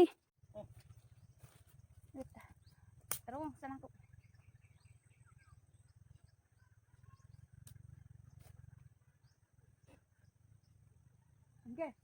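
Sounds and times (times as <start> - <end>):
faint low rumble: 0.4 - 12.0
faint bird chirps: 0.5 - 12.0.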